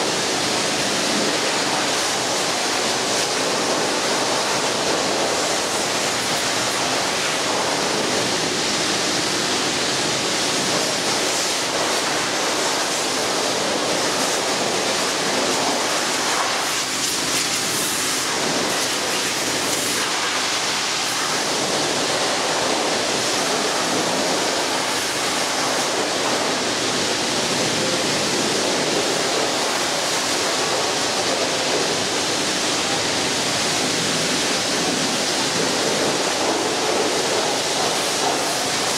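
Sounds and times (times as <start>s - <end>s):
pressure washer water jet hissing: 0.0s - 38.9s.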